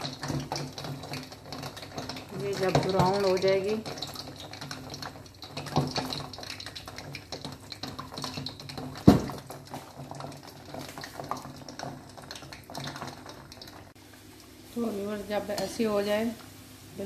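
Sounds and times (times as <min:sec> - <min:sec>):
dough sizzling in hot oil: 0:00.0 - 0:17.0.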